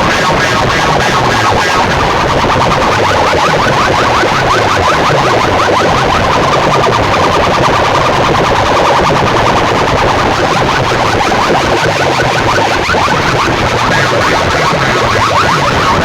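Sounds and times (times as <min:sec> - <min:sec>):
distorted electronic effects: 0:00.0 - 0:16.0
heavy bass: 0:00.0 - 0:16.0
siren-like rising sweeps: 0:00.0 - 0:16.0.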